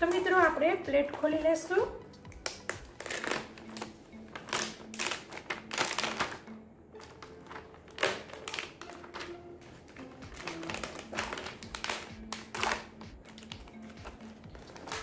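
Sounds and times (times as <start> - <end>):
cling film crinkling: 2.4 - 15.0.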